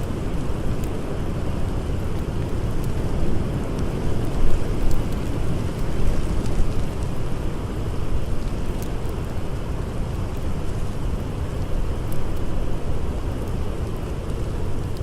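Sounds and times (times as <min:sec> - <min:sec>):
faint campfire crackles: 0:00.0 - 0:15.0.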